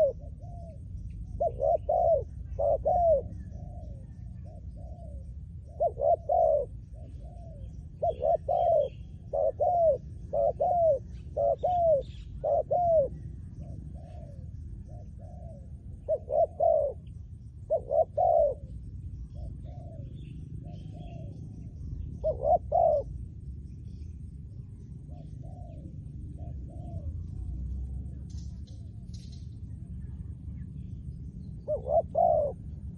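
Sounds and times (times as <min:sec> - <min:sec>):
dove cooing: 0:00.0 - 0:23.3, 0:25.0 - 0:27.6, 0:31.6 - 0:32.9
small birds chirping: 0:00.0 - 0:32.9
steady low rumble: 0:00.0 - 0:32.9.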